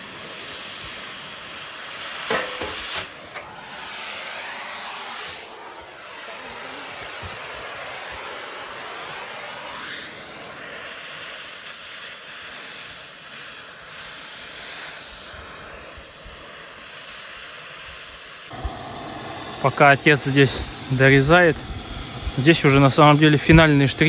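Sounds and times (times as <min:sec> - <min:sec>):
cutting torch hissing: 0:00.0 - 0:24.0.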